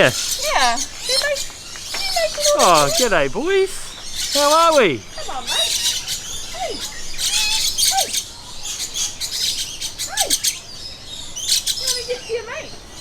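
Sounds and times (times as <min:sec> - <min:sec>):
parrots chattering and screeching: 0:00.0 - 0:13.0.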